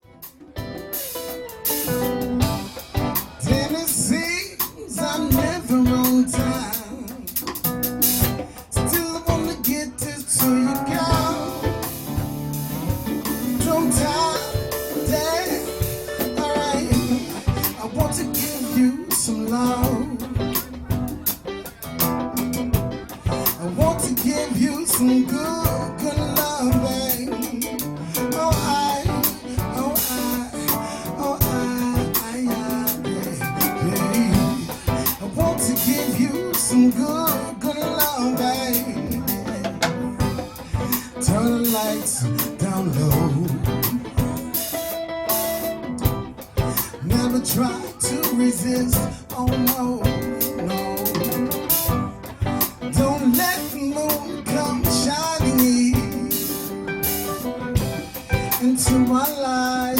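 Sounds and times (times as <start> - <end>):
funk and soul band music: 0.0 - 59.9
guitar: 0.0 - 59.9
steady drum beat: 0.0 - 59.9.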